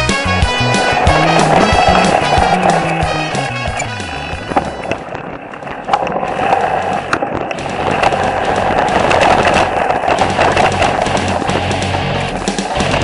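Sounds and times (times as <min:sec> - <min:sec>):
bike clattering over bumps: 0:00.0 - 0:13.0
bike tyres crunching on dirt: 0:00.0 - 0:13.0.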